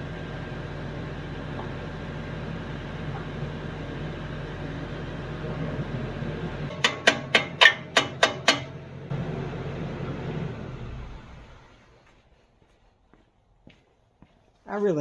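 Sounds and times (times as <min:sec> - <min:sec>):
diesel tractor running: 0:00.0 - 0:12.1.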